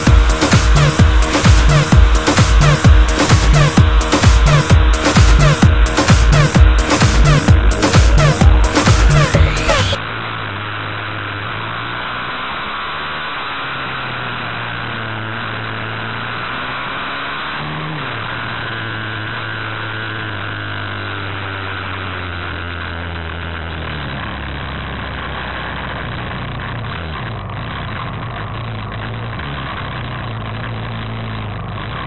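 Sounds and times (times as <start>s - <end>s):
small motorbike engine: 0.0s - 32.0s.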